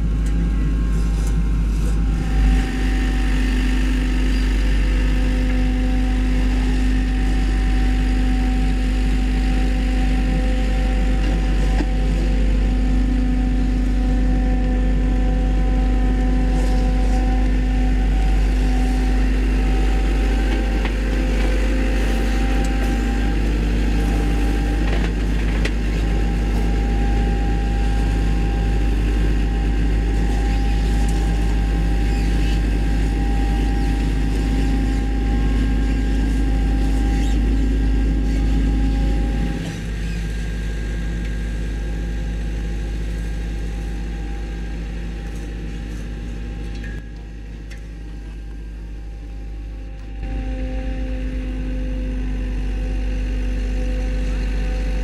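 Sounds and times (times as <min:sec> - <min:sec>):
diesel machinery engines rumbling: 0:00.0 - 0:55.0.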